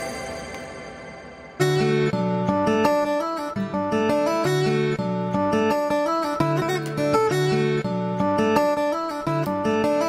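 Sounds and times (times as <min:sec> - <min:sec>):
background music: 0:00.0 - 0:10.0
held chords music: 0:00.0 - 0:10.0.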